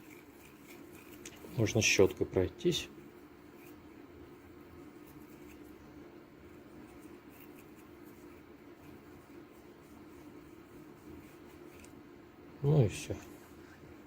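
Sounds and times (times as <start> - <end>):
small brush scrubbing: 0.0 - 12.1
steady low hum: 0.0 - 14.0.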